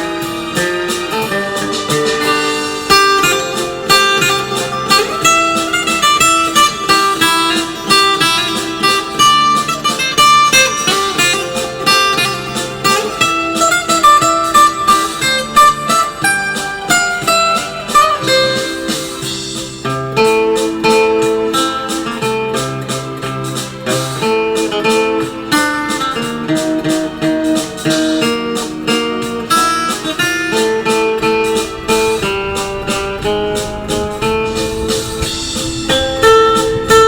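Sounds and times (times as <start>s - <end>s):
plucked guitar melody: 0.0s - 37.0s.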